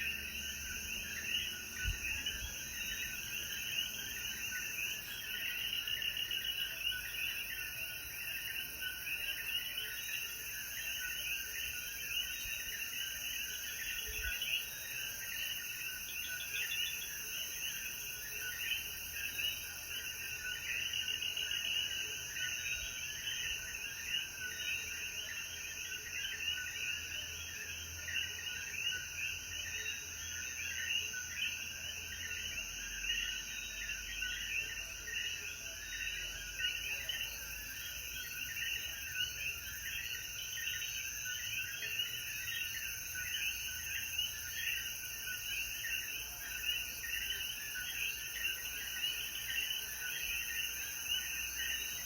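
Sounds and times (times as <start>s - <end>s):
frogs chirping: 0.0s - 52.0s.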